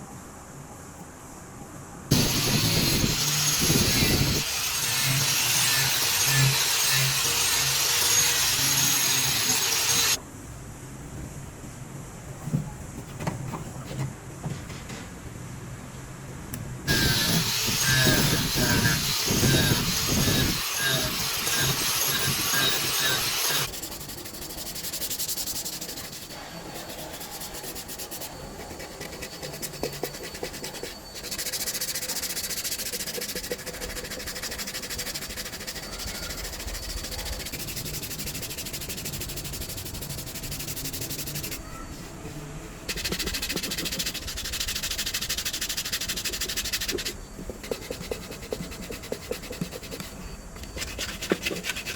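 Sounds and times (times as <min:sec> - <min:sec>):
wood being sanded by hand: 0:02.1 - 0:10.2, 0:16.9 - 0:50.2, 0:50.8 - 0:51.9.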